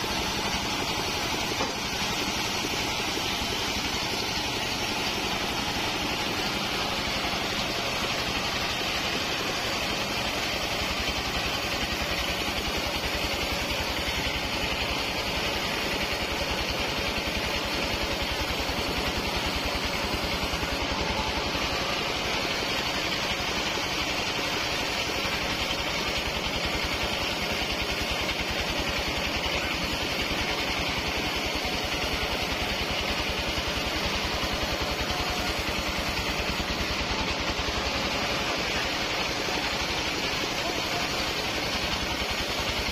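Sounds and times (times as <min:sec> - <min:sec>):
band sawmill sawing through log: 0:00.0 - 0:42.9.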